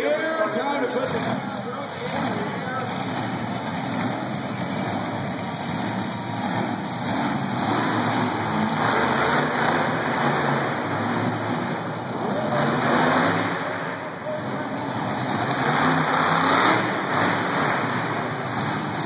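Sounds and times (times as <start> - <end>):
monster truck engines running: 0.0 - 19.0.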